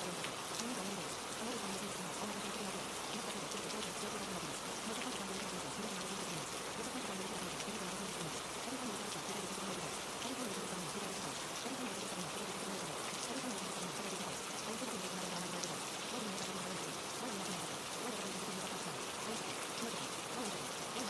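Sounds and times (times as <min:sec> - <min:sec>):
faint low voice murmuring: 0:00.0 - 0:21.0
steady rain: 0:00.0 - 0:21.0.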